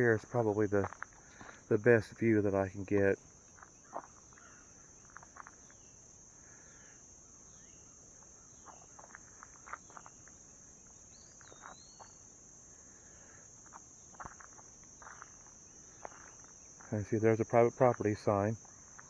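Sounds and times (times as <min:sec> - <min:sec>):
soft footsteps or rustles: 0:00.0 - 0:05.9, 0:08.2 - 0:12.3, 0:13.6 - 0:19.0
high-pitched insect chorus: 0:00.0 - 0:19.0.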